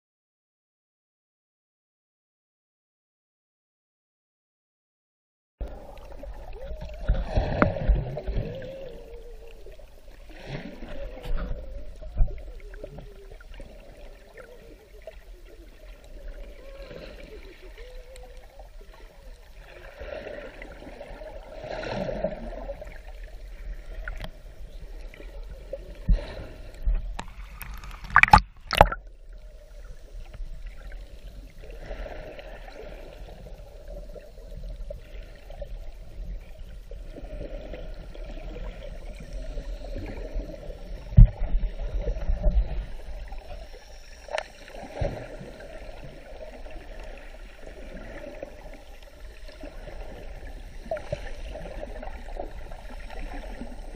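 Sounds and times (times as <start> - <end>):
muffled underwater sloshing: 5.6 - 53.9.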